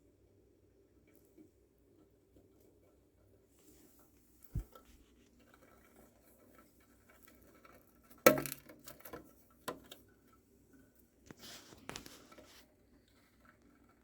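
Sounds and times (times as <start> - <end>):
mouse scratching and rustling: 0.8 - 14.0.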